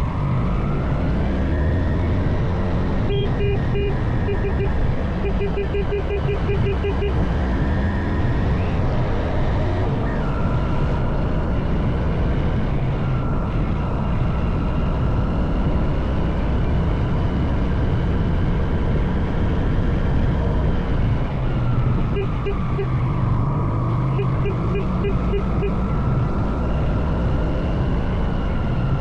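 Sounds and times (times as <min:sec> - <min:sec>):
wind and road rumble: 0:00.0 - 0:29.0.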